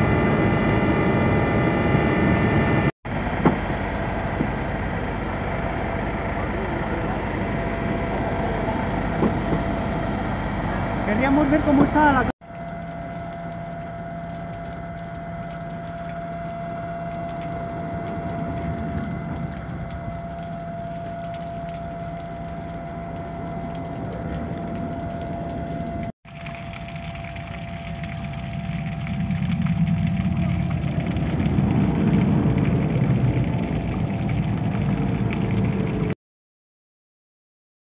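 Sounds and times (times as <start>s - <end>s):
engine idling: 0.0s - 36.1s
thin steady whine: 0.0s - 36.2s.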